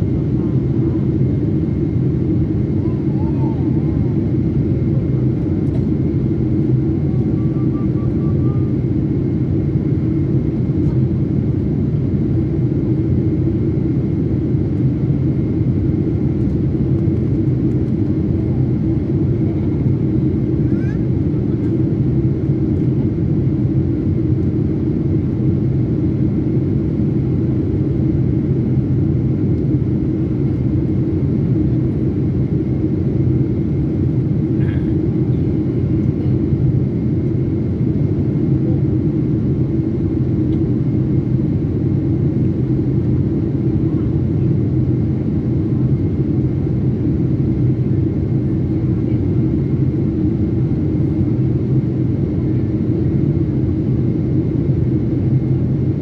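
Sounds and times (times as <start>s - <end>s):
jet airliner cabin rumble: 0.0s - 56.0s.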